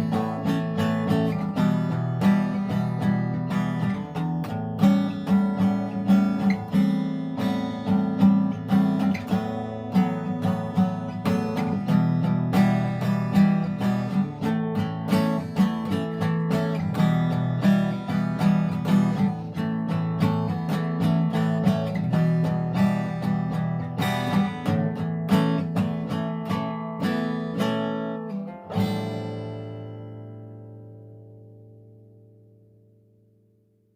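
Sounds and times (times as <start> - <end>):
fingerstyle acoustic guitar: 0.0 - 33.9.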